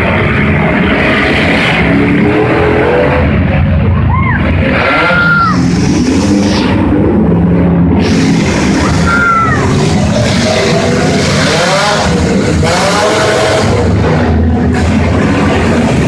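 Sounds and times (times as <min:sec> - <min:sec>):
car engines revving loudly: 0:00.0 - 0:16.0.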